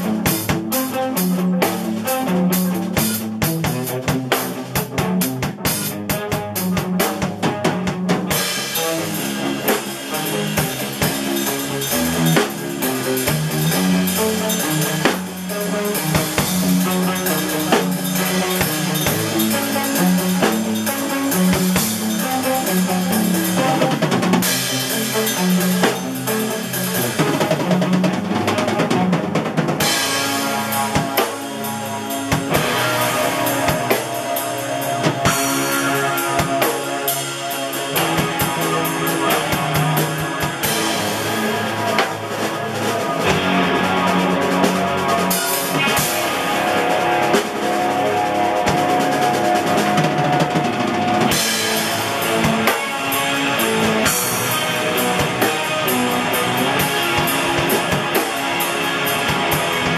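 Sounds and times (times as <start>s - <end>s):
drum kit beat: 0.0s - 59.9s
electric guitar chords: 0.0s - 59.9s.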